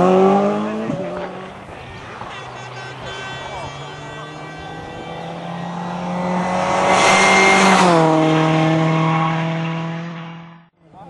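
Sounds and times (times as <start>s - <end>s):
rally car passing at speed: 0.0s - 10.7s.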